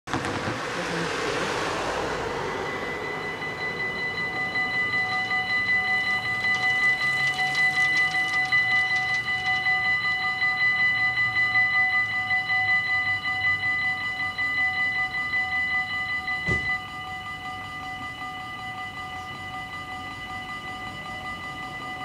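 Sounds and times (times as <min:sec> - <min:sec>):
level crossing warning bells: 0:00.3 - 0:22.0.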